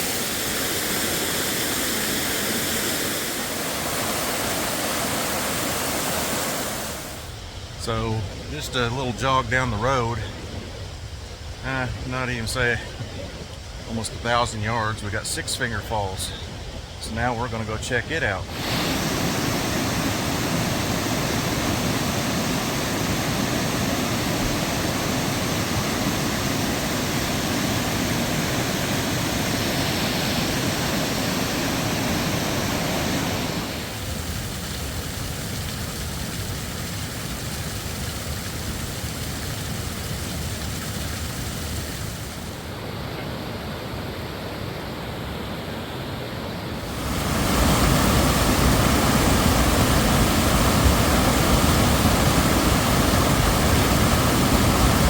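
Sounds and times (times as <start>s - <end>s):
waterfall rushing: 0.0s - 10.4s, 11.2s - 42.8s, 46.8s - 55.0s.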